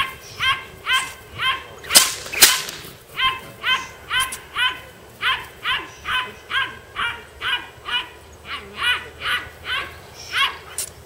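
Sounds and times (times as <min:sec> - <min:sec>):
dog yipping: 0:00.0 - 0:01.7, 0:03.2 - 0:10.8.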